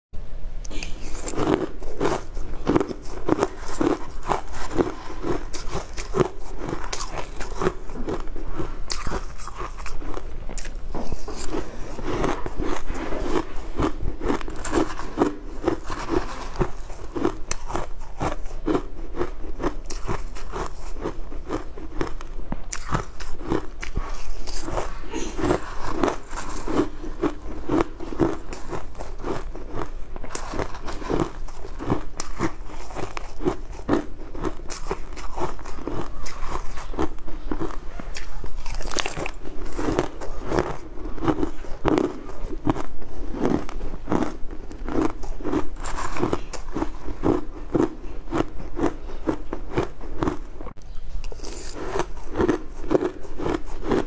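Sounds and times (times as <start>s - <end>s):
crunching ice while chewing: 0.7s - 54.0s.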